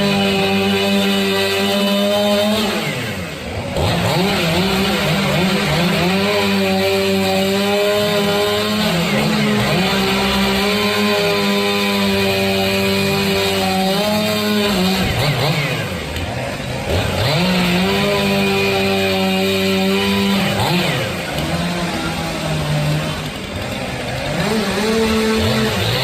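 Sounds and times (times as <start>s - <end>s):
chainsaw running at high revs: 0.0s - 26.0s.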